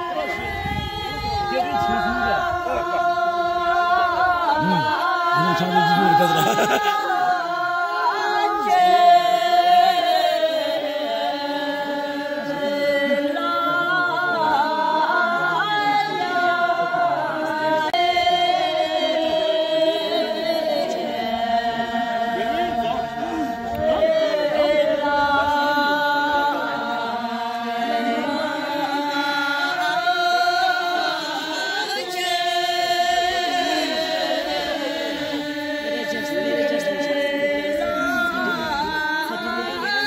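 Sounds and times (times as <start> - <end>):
women singing unaccompanied: 0.0 - 40.0.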